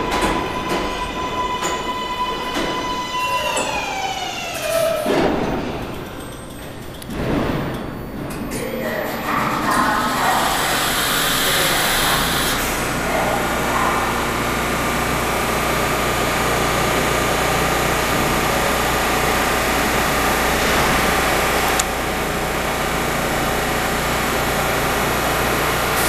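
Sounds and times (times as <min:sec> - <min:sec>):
train equipment humming: 0:00.0 - 0:26.0.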